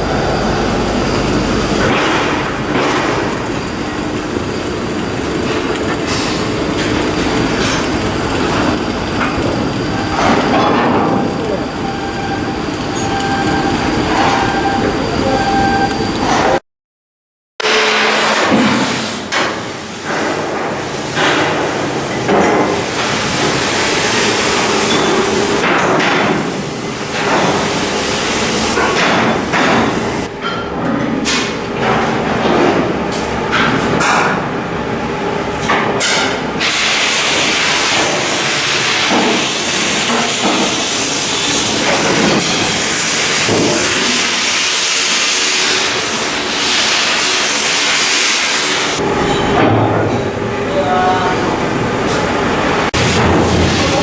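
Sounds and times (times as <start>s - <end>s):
workshop noise: 0.0s - 16.6s, 17.6s - 54.0s.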